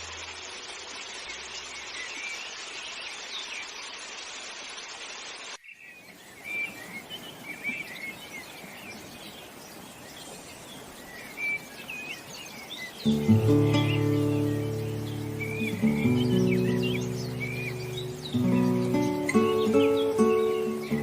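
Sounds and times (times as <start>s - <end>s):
birds chirping: 0.0s - 4.4s, 5.4s - 21.0s
steady outdoor hiss: 0.0s - 21.0s.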